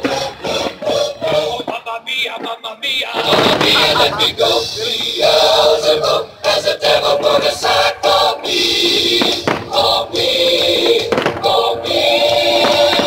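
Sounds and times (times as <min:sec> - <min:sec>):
choir singing with music: 0:00.0 - 0:02.1, 0:02.8 - 0:13.0.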